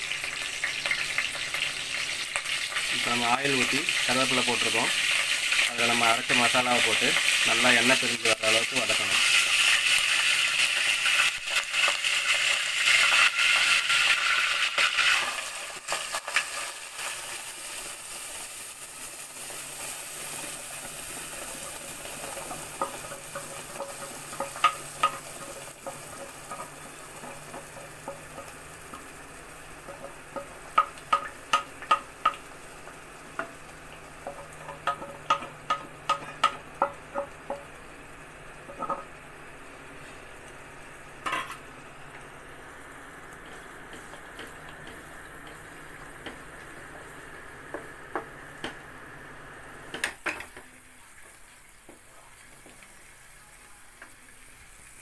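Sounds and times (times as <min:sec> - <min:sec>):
leaves sizzling in hot oil: 0:00.0 - 0:55.0.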